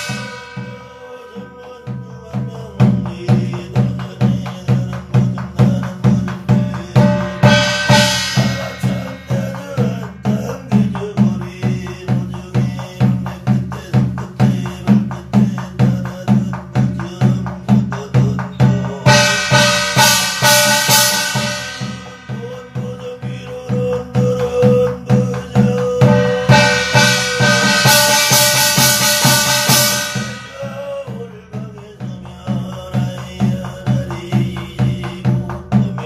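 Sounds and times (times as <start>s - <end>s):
barrel drum beaten with stick: 0.0s - 36.0s.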